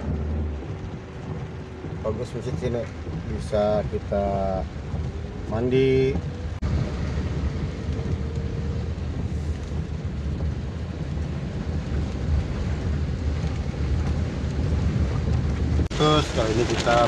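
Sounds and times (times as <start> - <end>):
car driving rumble: 0.0 - 17.0
faint rain hiss: 0.0 - 17.0.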